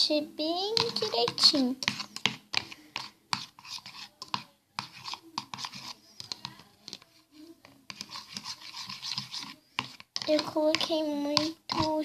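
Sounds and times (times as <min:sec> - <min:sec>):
utensil scraping a small pot: 0:00.7 - 0:12.0.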